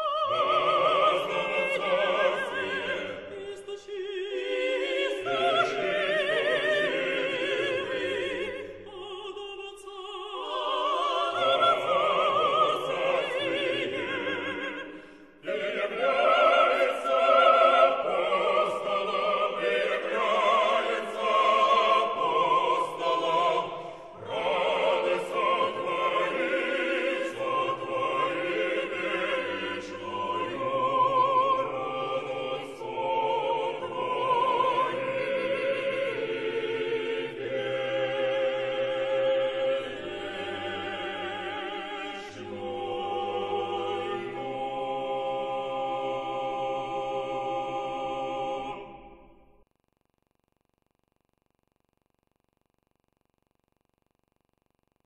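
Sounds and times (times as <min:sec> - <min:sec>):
vocal ensemble singing: 0:00.0 - 0:49.6.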